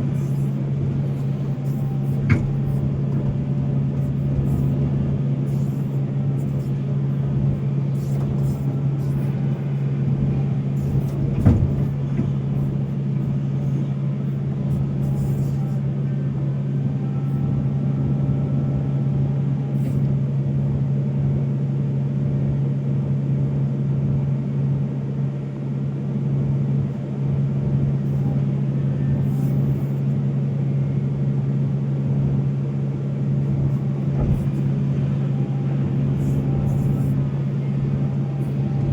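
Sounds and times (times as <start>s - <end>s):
excavator diesel engine droning: 0.0s - 21.8s, 26.1s - 38.9s.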